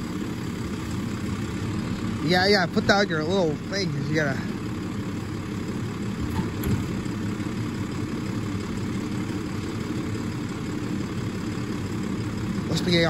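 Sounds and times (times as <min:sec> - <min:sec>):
garbage truck diesel engine idling: 0:00.0 - 0:13.0.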